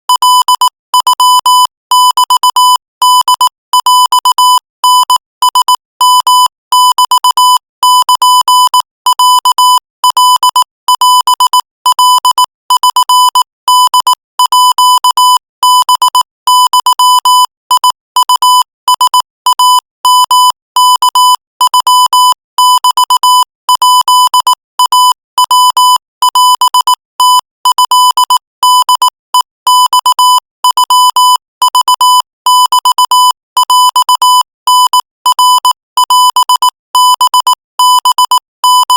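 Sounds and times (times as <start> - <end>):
morse code beeps: 0.1 - 38.9.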